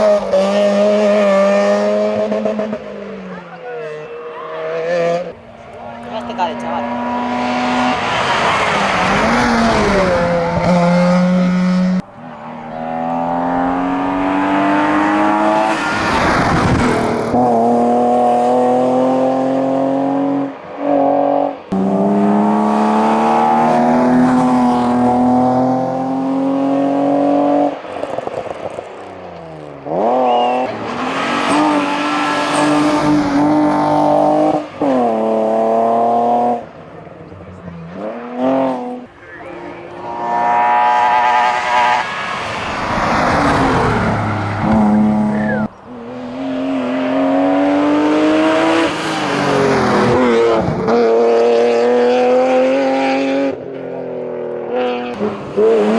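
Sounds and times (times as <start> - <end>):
race car accelerating through gears: 0.0 - 55.9
race car engine revving: 0.0 - 55.9.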